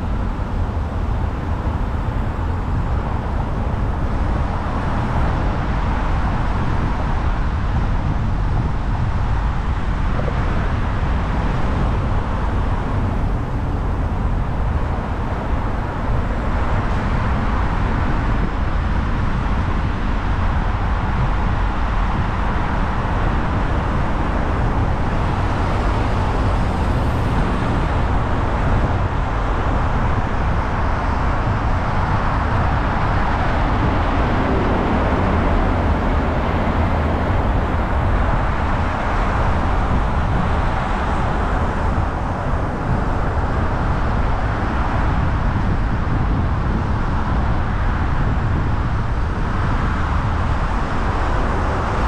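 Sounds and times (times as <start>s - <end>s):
low road rumble: 0.0s - 52.0s
tyre and wind hiss: 0.0s - 52.0s.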